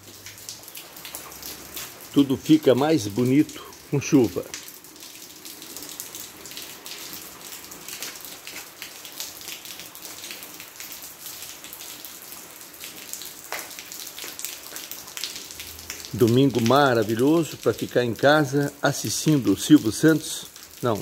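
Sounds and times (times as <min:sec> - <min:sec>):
gentle rain falling: 0:00.0 - 0:21.0
raindrops splashing on concrete: 0:00.0 - 0:21.0.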